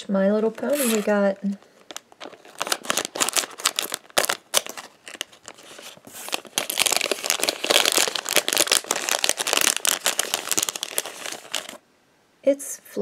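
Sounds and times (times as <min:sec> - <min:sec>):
foil bag crinkling: 0:00.5 - 0:11.8.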